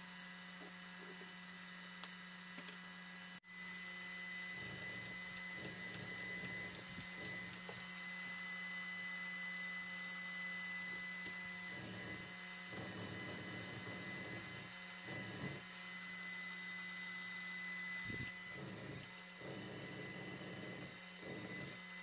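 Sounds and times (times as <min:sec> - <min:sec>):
steady hum with high whine: 0:00.0 - 0:22.0.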